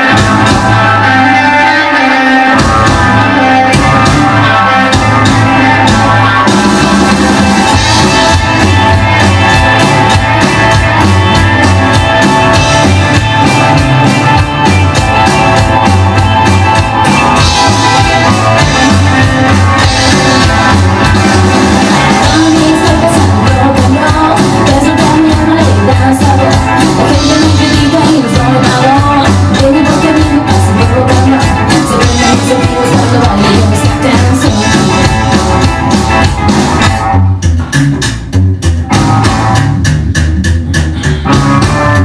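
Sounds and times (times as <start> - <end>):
rockabilly music: 0.0 - 42.0.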